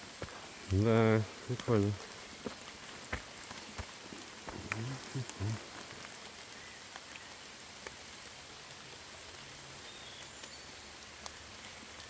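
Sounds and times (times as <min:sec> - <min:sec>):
light rain hiss: 0:00.0 - 0:12.0
raindrops ticking on leaves: 0:00.0 - 0:12.0.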